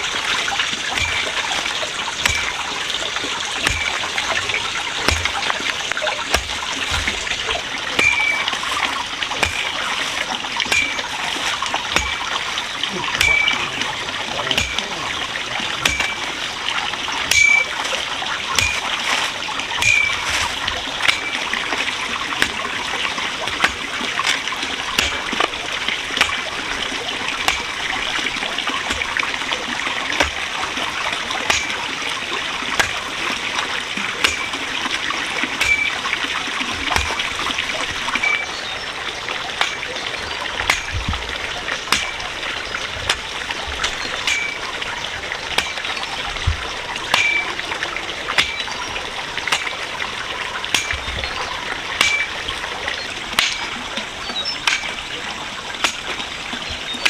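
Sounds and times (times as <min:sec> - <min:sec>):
small splashes: 0:00.0 - 0:57.0
water trickling and splattering: 0:00.0 - 0:57.0.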